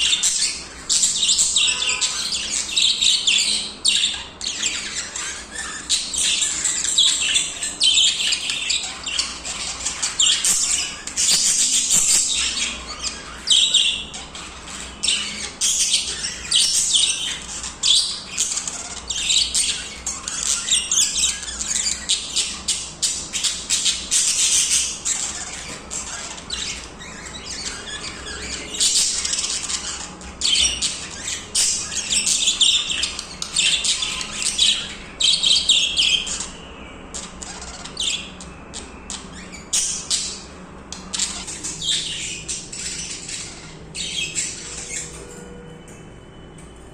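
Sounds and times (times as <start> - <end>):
budgies chirping and warbling: 0.0 - 45.7.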